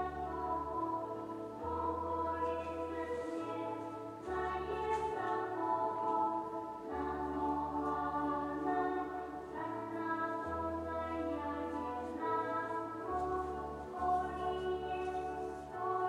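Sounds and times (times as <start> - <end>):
slow sustained music chords: 0.0 - 16.0.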